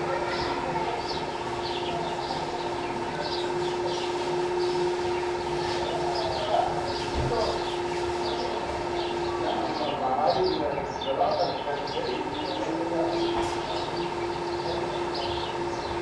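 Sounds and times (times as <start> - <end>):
sparrows chirping: 0.0 - 16.0
steady droning tone: 0.0 - 16.0.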